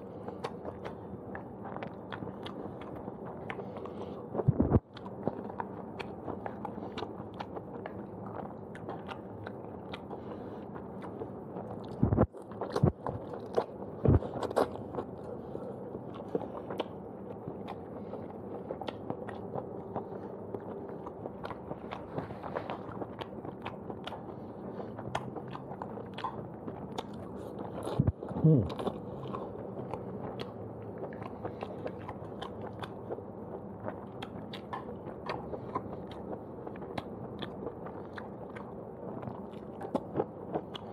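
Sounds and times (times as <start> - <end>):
chewing with wet mouth clicks: 0.0 - 40.9.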